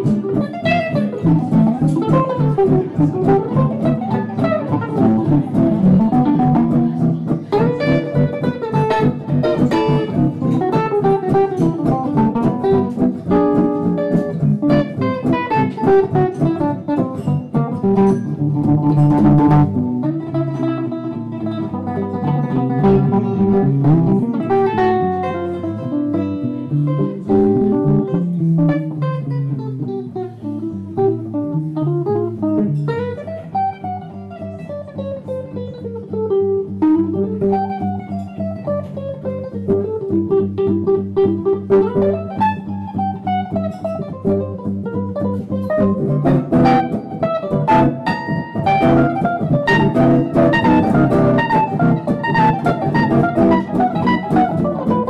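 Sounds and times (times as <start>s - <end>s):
acoustic guitars playing blues: 0.0s - 55.0s.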